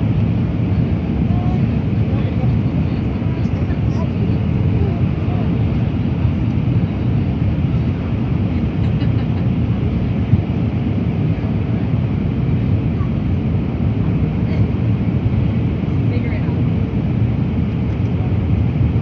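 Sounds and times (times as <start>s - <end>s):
jet engines and airflow roar: 0.0s - 19.0s.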